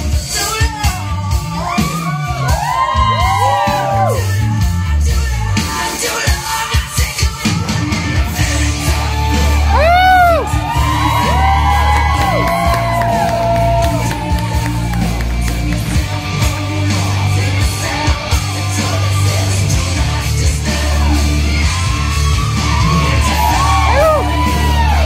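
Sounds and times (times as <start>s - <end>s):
loud music with heavy bass: 0.0s - 25.0s
audience whooping and yelling: 0.4s - 4.7s, 8.2s - 25.0s.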